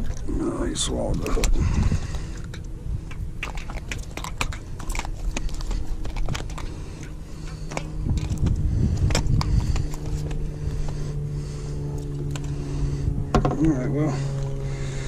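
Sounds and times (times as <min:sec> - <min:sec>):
faint steady hum: 0:00.0 - 0:15.0
low rumble: 0:00.0 - 0:15.0.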